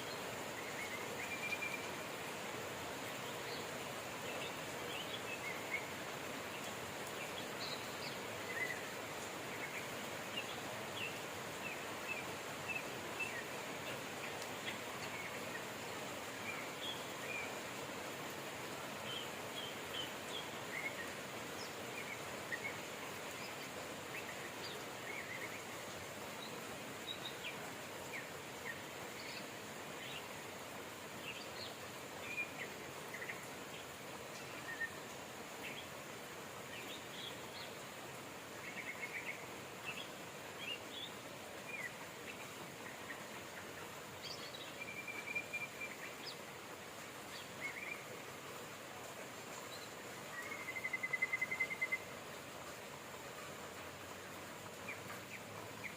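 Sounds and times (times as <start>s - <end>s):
small birds chirping: 0.0s - 55.9s
steady rain hiss: 0.0s - 55.9s.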